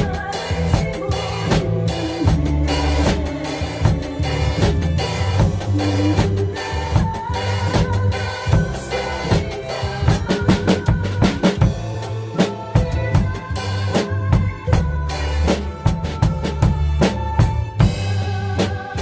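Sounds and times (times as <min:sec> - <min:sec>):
drum kit playing: 0:00.0 - 0:19.0
instrumental backing track: 0:00.0 - 0:19.0.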